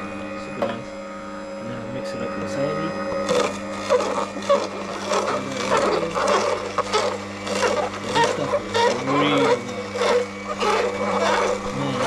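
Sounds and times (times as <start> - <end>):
juicer motor hum: 0.0 - 12.0.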